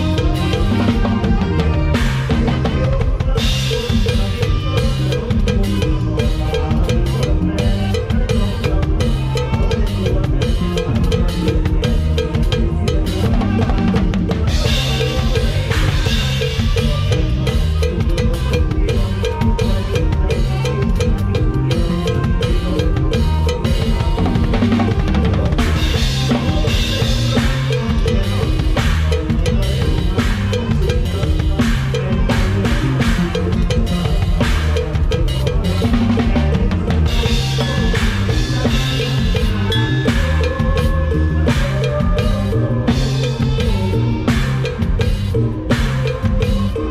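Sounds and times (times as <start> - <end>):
band melodic instruments: 0.0 - 46.9
bass drum beat: 0.0 - 46.9.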